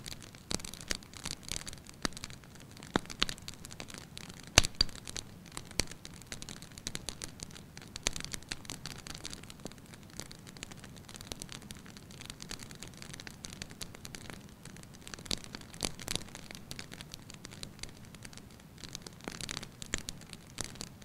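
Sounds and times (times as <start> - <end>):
fire pops and snaps: 0.0 - 21.0
wood fire crackling: 0.0 - 21.0.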